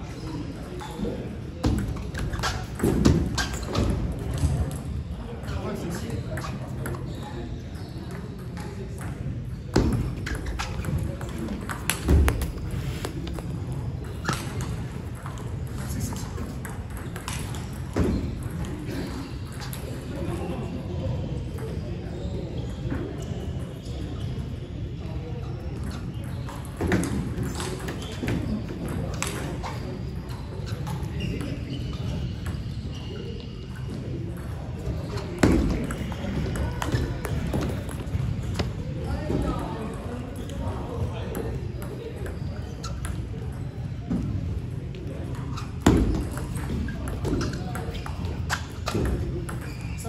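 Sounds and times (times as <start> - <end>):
faint voices: 0.0 - 50.0.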